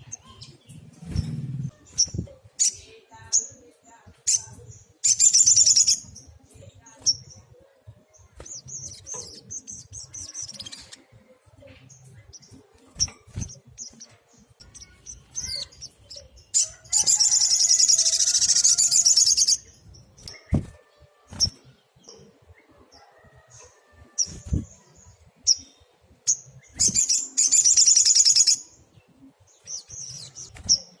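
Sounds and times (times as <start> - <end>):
bird chirping and trilling: 0.0 - 7.5, 8.2 - 11.2, 11.8 - 31.0.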